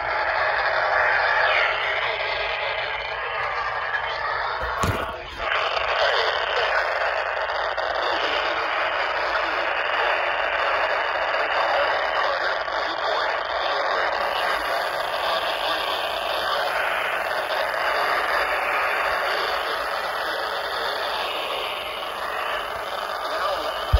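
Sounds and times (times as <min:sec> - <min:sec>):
radio static hiss: 0:00.0 - 0:23.9.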